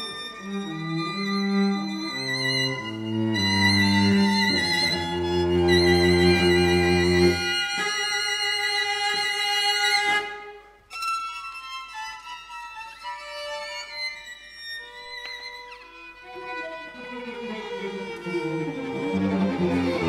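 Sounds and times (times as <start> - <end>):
string quartet playing: 0.0 - 20.0.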